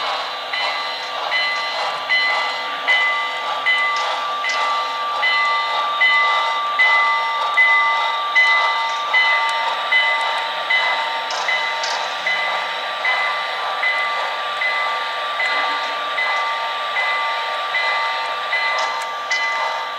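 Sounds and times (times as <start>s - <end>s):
model train running hum: 0.0s - 19.9s
model train wheels clicking: 0.0s - 19.9s.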